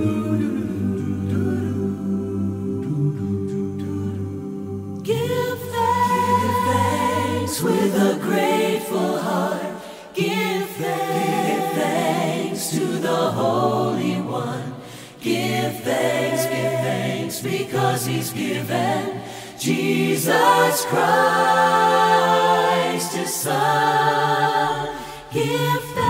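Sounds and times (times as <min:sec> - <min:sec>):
a cappella choir singing: 0:00.0 - 0:26.0.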